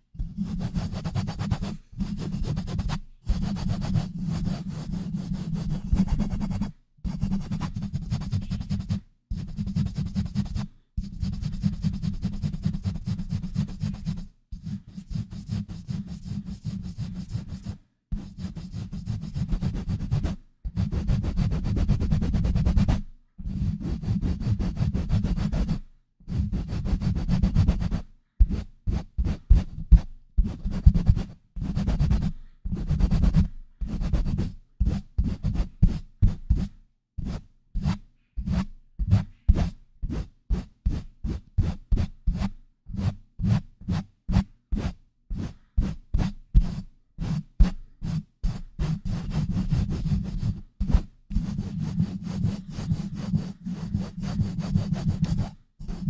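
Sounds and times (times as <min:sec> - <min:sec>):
scratching against microphone: 0:00.4 - 0:28.6, 0:29.2 - 0:56.0.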